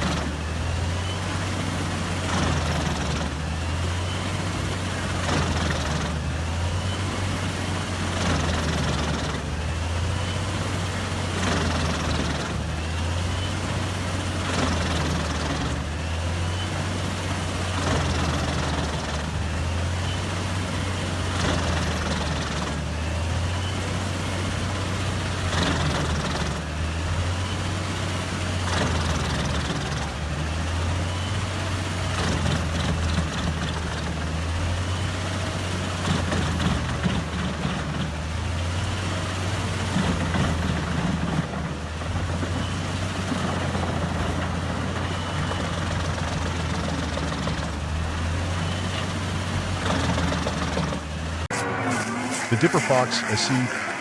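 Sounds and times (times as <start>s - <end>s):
wood chipper engine drone: 0.0s - 54.0s
wood going through chipper: 0.0s - 54.0s.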